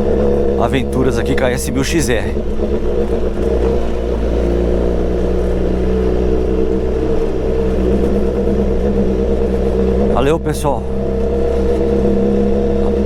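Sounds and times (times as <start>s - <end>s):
motorcycle engine at steady revs: 0.0s - 13.0s.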